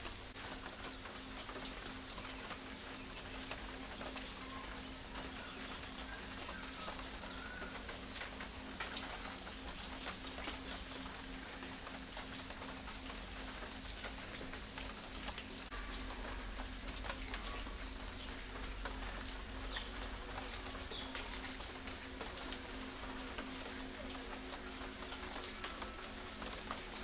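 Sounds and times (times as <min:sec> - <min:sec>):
light rain pattering: 0:00.0 - 0:27.0
small scattered drips: 0:00.0 - 0:27.0.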